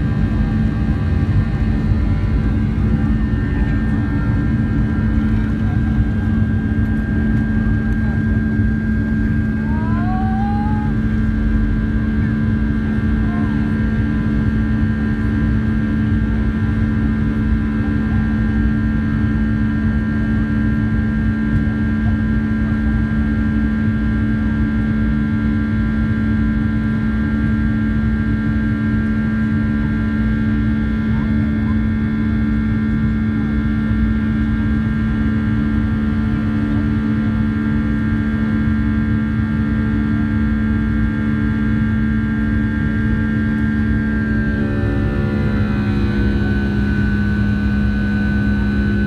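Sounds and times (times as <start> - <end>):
jet engine drone in cabin: 0.0 - 49.0.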